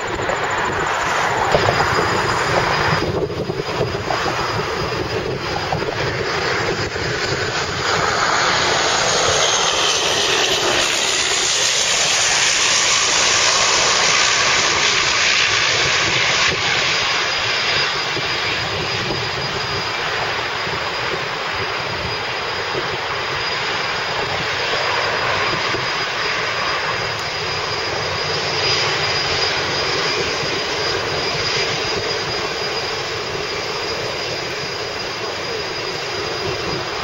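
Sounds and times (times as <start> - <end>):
jet engines taxiing: 0.0 - 37.0.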